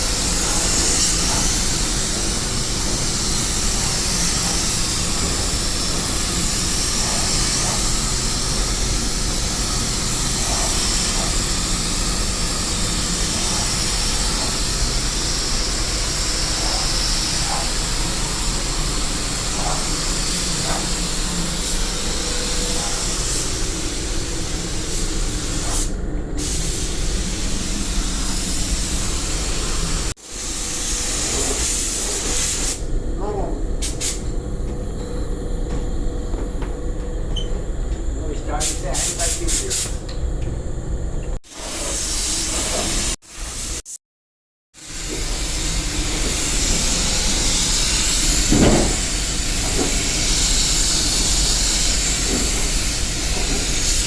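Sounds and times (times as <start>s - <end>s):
loud hiss of spraying: 0.0s - 34.3s, 38.3s - 40.0s, 41.5s - 43.9s, 44.8s - 54.0s.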